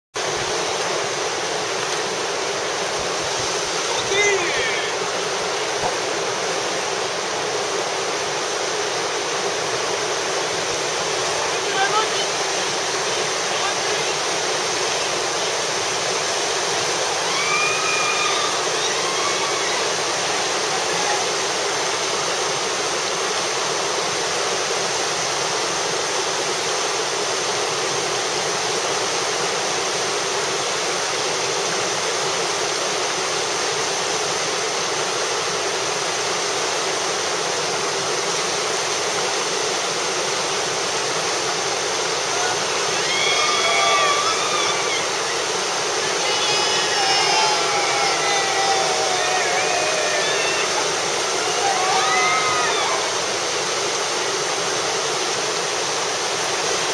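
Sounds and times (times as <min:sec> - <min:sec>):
whitewater roaring: 0:00.2 - 0:56.9.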